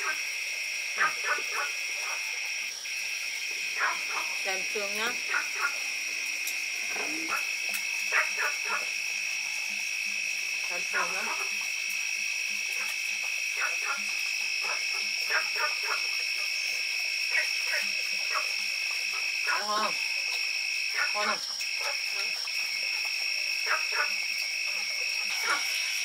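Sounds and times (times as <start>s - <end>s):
crickets trilling: 0.0s - 26.0s
frogs croaking: 0.0s - 26.0s.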